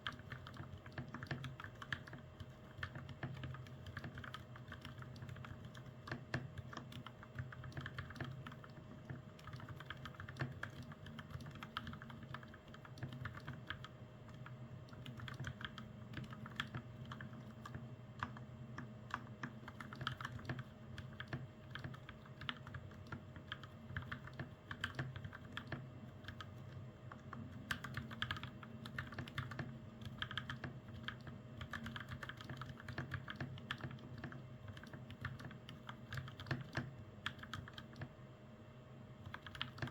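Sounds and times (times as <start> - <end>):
mechanical keyboard typing: 0.0 - 18.4, 19.1 - 38.1, 39.2 - 39.9
faint steady hum: 0.0 - 39.9.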